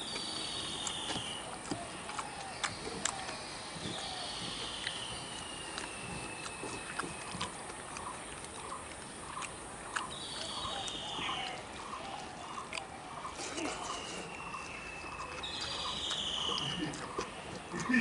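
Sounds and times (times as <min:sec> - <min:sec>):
eating clicks and smacks: 0:00.0 - 0:18.0.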